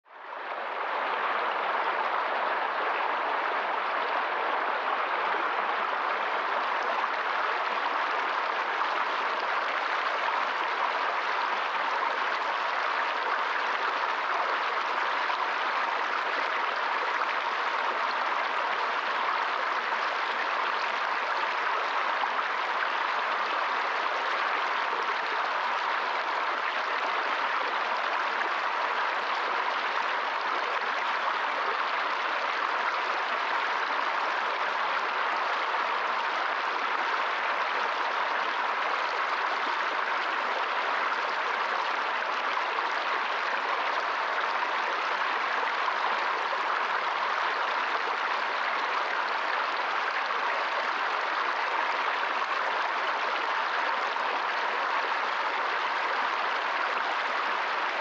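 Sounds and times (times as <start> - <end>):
stream rushing over rocks: 0.1 - 58.0.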